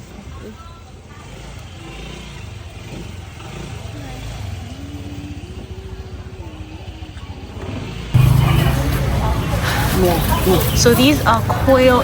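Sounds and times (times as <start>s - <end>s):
vehicle engines running: 0.0s - 12.0s.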